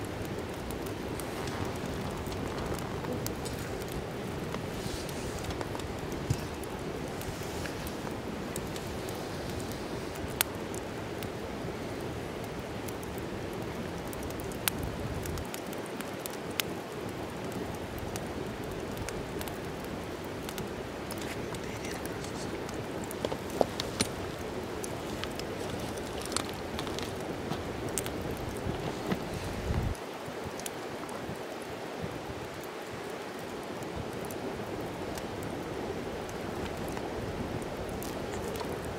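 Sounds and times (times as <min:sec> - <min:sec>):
fireplace fire crackling: 0:00.0 - 0:38.9.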